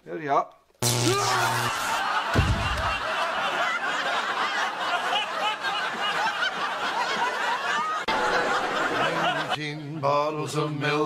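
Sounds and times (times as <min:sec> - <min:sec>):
audience laughing: 0:01.4 - 0:11.0.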